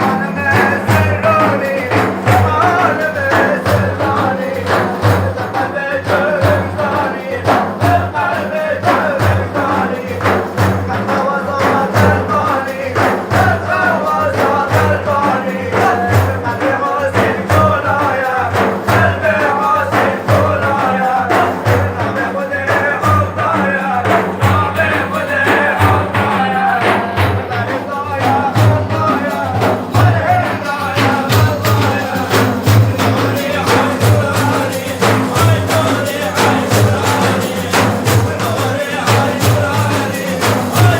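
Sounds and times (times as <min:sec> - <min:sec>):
frame drums beating fast: 0:00.0 - 0:40.9.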